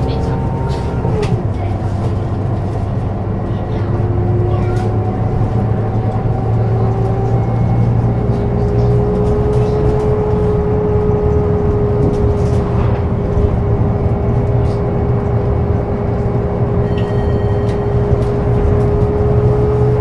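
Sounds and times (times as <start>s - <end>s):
diesel bus engine rumbling: 0.0s - 20.0s.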